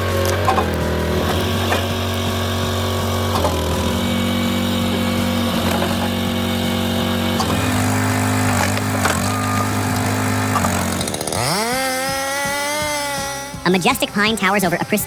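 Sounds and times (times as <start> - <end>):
wood splitter engine running: 0.0 - 13.8.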